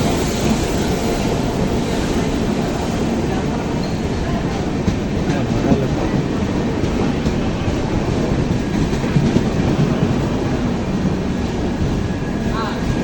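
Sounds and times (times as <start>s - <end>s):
train rumbling and clattering: 0.0s - 13.0s.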